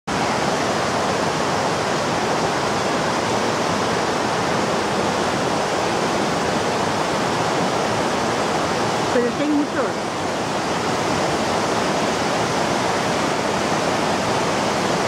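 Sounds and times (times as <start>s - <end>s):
waterfall roaring: 0.1s - 15.0s.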